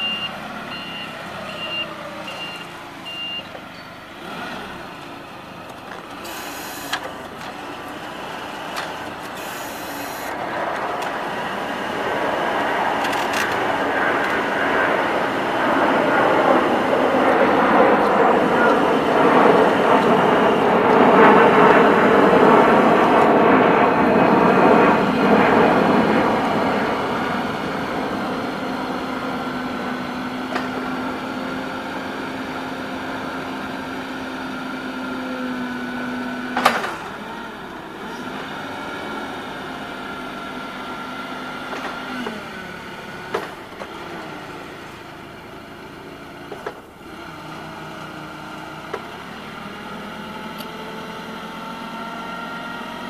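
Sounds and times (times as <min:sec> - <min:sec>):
forklift engine running: 0:00.0 - 0:53.0.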